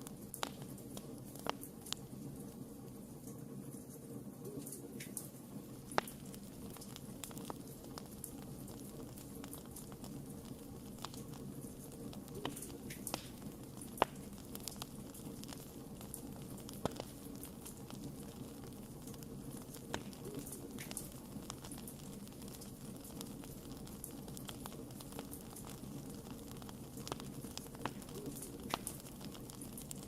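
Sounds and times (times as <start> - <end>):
fire crackles and pops: 0.0 - 30.0
wood fire hissing: 0.0 - 30.0.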